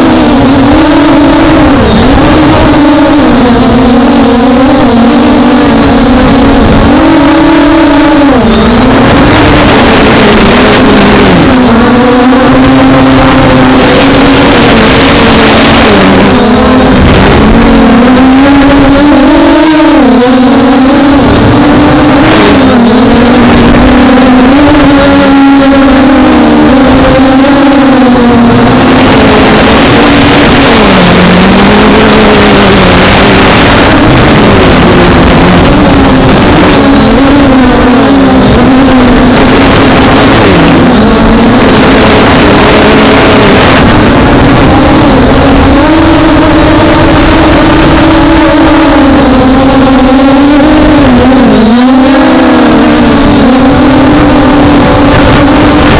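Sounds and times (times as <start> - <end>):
drone motors buzzing: 0.0 - 55.9
wind noise: 0.0 - 55.9.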